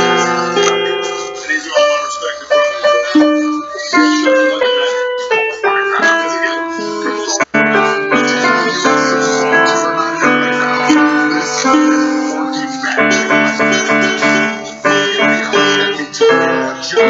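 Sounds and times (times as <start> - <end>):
acoustic guitar: 0.0 - 17.0
keyboard piano melody: 0.0 - 17.0.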